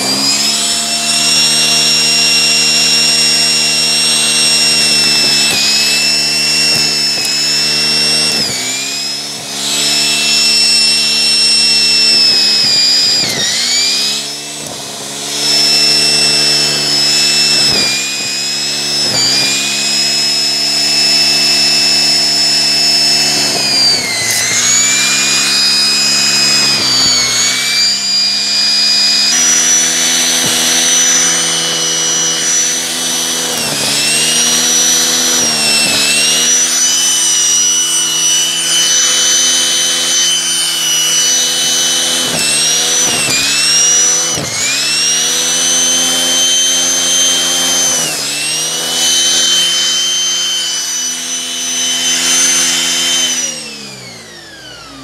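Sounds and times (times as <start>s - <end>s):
vacuum cleaner whining: 0.0s - 55.0s.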